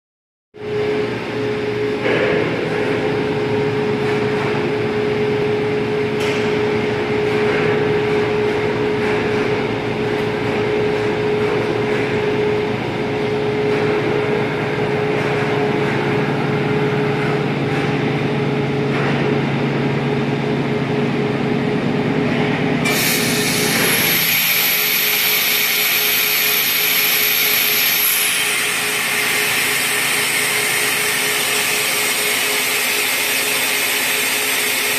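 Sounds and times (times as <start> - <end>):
high machine whine: 0.6 - 34.9
machine hum: 0.6 - 34.9.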